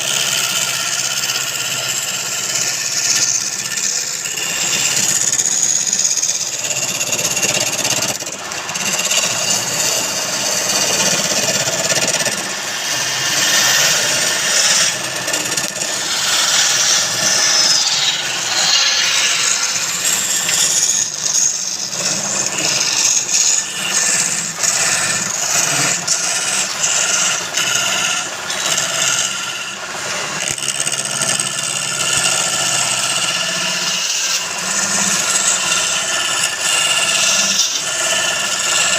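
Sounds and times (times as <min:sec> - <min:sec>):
low lathe hum: 0:00.0 - 0:38.9
tool scraping wood on lathe: 0:00.0 - 0:38.9.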